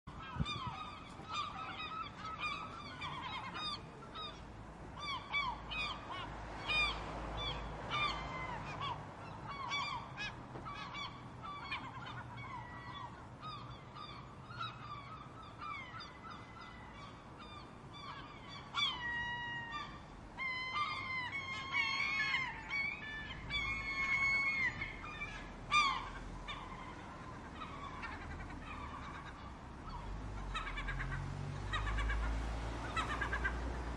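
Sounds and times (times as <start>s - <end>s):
gulls squawking: 0.1s - 33.9s.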